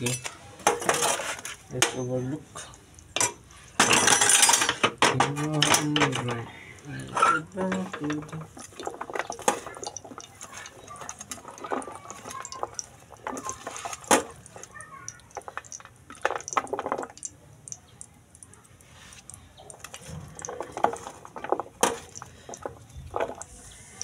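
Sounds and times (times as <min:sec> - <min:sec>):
hot oil crackling and popping: 0:00.0 - 0:24.0.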